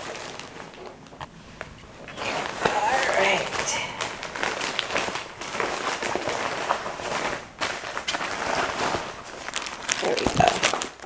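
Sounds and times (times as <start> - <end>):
fabric rustling: 0.0 - 11.0
plastic bag crinkling: 0.0 - 11.0.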